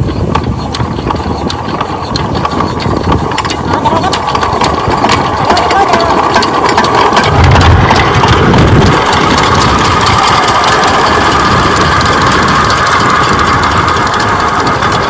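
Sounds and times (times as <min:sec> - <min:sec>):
diesel engine knocking: 0:00.0 - 0:15.0.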